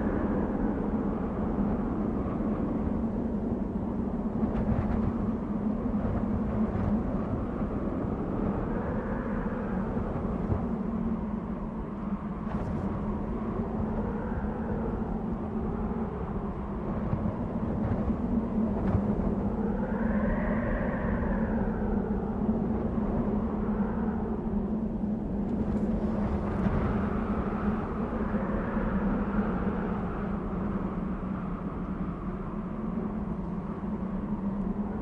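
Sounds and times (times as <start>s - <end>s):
constant low hum: 0.0s - 35.0s
wind blowing in gusts: 0.0s - 35.0s.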